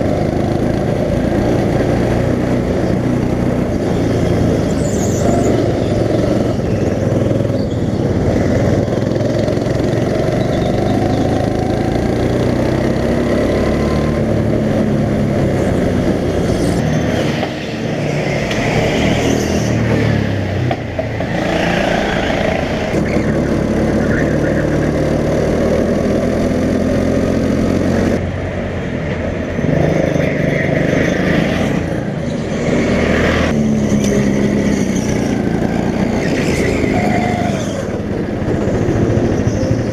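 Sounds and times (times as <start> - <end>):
go-kart engines revving: 0.0 - 39.9.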